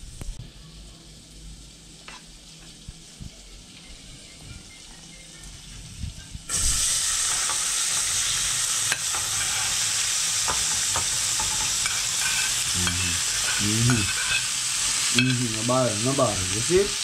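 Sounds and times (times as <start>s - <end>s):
vegetables sizzling in butter: 0.1s - 17.0s.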